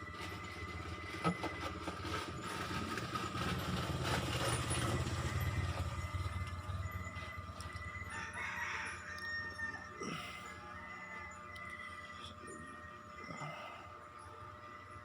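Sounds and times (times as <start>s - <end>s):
engine running with pulsing rumble: 0.0s - 15.0s.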